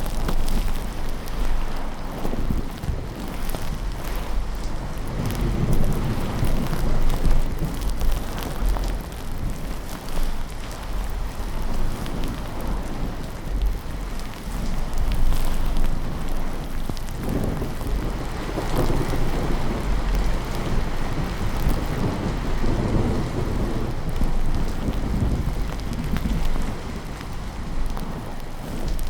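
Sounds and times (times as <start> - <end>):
steady rain: 0.0 - 29.0
thunder rumbling: 0.0 - 29.0.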